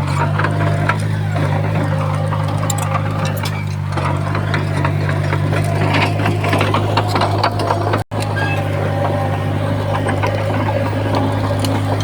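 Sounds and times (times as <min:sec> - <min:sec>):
bulldozer diesel engine running: 0:00.0 - 0:12.0
clicks and rattles: 0:00.0 - 0:12.0.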